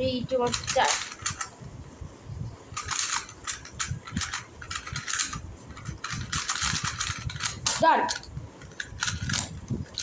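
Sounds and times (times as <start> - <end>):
puzzle cube clicks and rattles: 0.3 - 1.6, 2.7 - 10.0.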